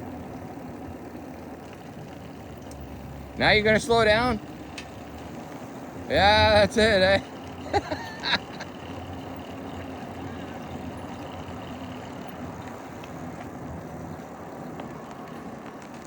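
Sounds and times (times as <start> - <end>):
bicycle rolling on path: 0.0 - 16.0.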